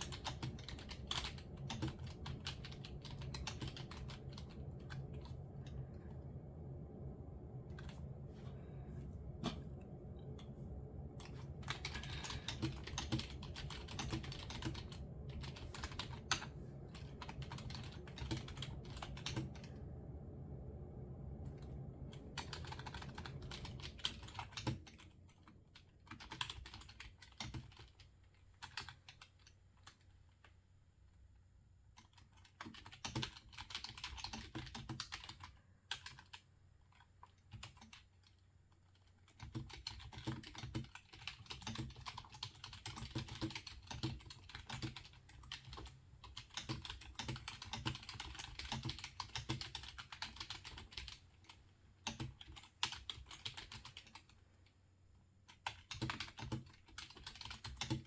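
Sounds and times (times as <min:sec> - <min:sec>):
typing on computer keyboard: 0:00.0 - 0:05.4, 0:11.2 - 0:19.7, 0:22.4 - 0:30.5, 0:32.0 - 0:54.4, 0:55.5 - 0:58.0
low steady hum: 0:00.0 - 0:58.0.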